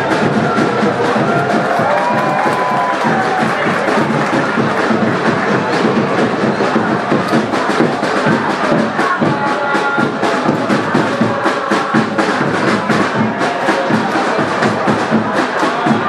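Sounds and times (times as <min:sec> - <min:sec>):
crowd chanting and singing: 0:00.0 - 0:16.0
drum strikes: 0:00.0 - 0:16.0.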